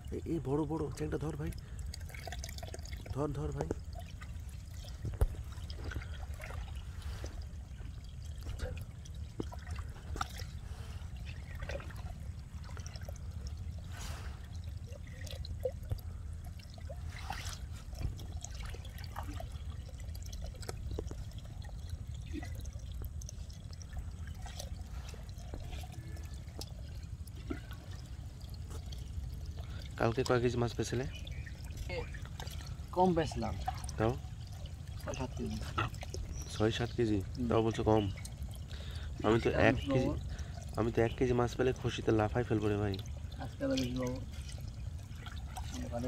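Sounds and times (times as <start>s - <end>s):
steady low rumble: 0.0s - 41.8s
shallow water trickling: 0.0s - 46.0s
small splashes and knocks: 0.0s - 46.0s.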